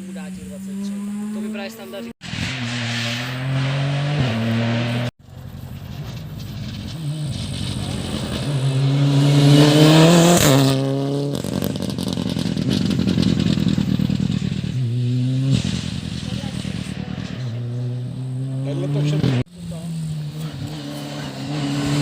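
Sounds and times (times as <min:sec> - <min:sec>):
rally car engine at full throttle: 0:00.0 - 0:22.0.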